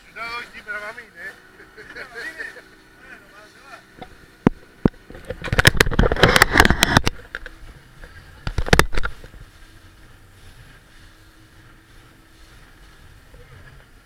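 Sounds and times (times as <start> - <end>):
boat hull pounding over waves: 0.0 - 14.0.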